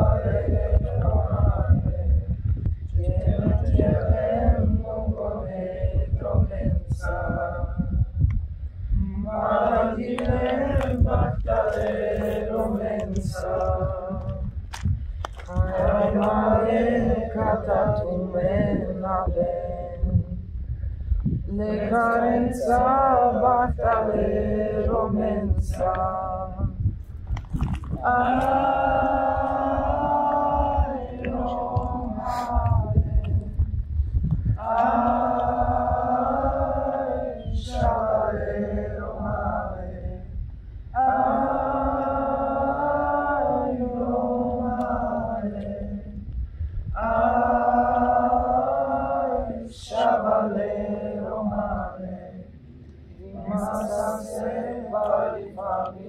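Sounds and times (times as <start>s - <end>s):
group singing unaccompanied: 0.0s - 20.5s, 21.2s - 56.0s
low rumble: 0.0s - 43.0s, 43.8s - 48.7s
slow wordless chanting: 0.0s - 56.0s.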